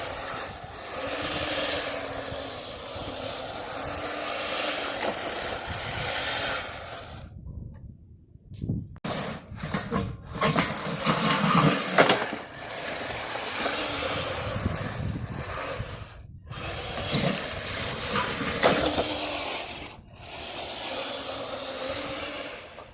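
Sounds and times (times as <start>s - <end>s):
toy tracked vehicle motor rubbing: 0.0s - 7.3s, 9.1s - 22.9s.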